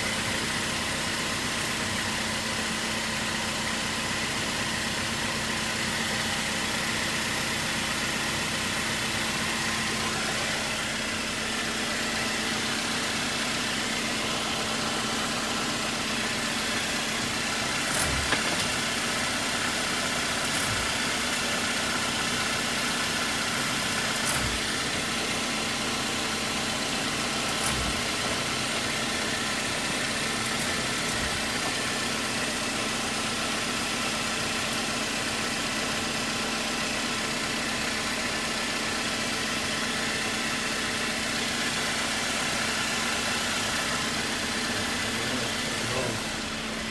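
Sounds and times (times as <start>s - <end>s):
car grinding hum: 0.0s - 46.9s.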